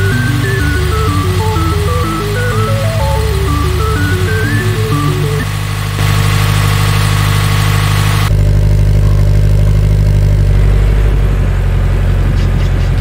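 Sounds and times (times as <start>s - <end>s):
car engine idling: 0.0s - 12.2s.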